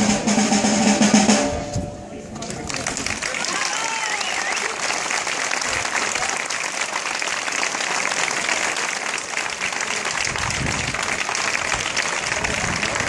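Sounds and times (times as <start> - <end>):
crowd applauding: 2.4 - 13.0.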